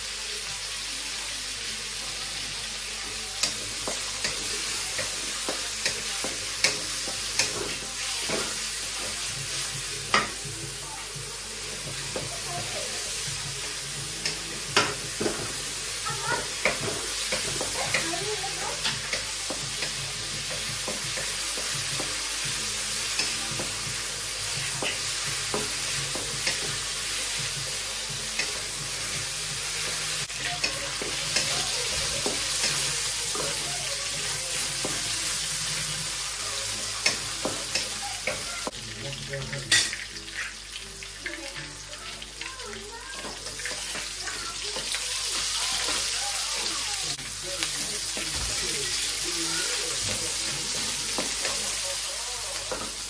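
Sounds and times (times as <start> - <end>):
meat sizzling in hot oil: 0.0 - 53.0.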